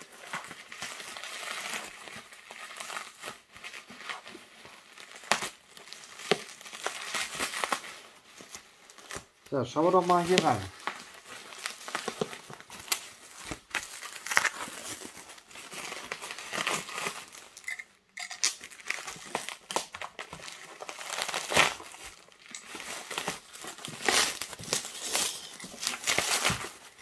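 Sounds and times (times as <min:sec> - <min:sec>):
bubble wrap crinkling: 0:00.0 - 0:27.0.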